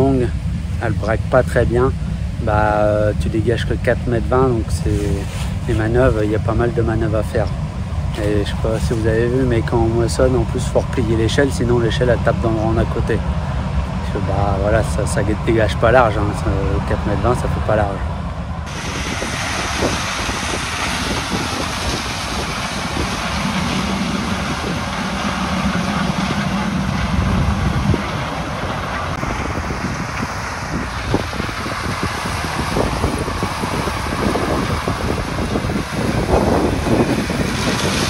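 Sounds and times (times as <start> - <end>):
combine harvester running: 0.0 - 38.0
wind buffeting microphone: 0.0 - 38.0.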